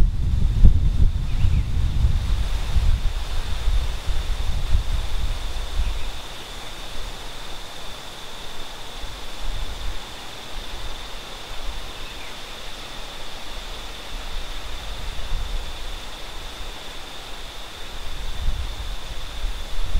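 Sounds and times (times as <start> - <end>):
wind rumble on microphone: 0.0 - 12.0, 13.4 - 19.9
steady hiss: 0.0 - 19.9.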